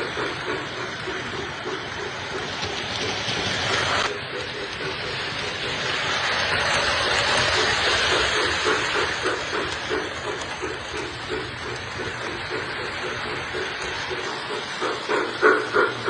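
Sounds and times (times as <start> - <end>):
model train chuffing: 0.0 - 16.0
model train rushing hiss: 0.0 - 16.0.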